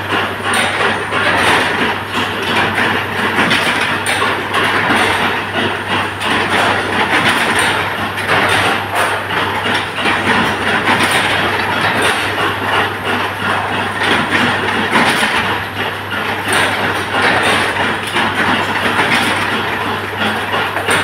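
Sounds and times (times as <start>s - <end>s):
forging machine running: 0.0s - 21.0s.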